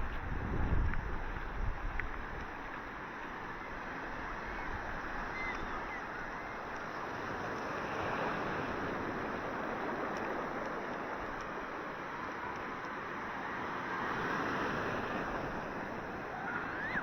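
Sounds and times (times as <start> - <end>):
ocean waves washing onto beach: 0.0 - 17.0.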